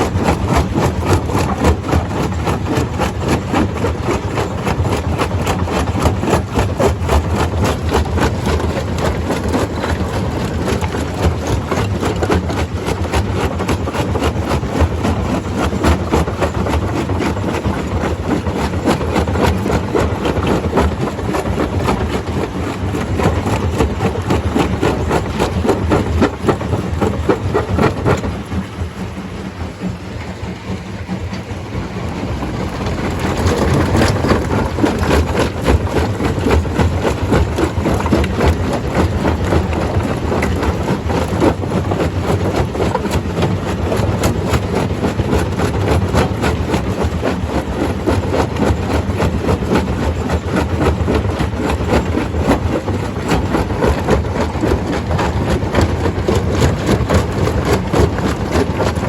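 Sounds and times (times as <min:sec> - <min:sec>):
stone crusher crushing rock: 0:00.0 - 0:28.7, 0:32.4 - 0:59.0.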